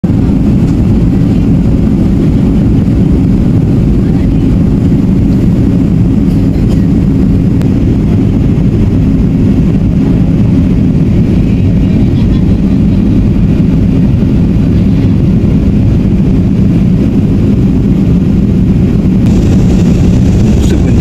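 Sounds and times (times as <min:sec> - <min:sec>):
airplane cabin engine roar: 0:00.0 - 0:21.0.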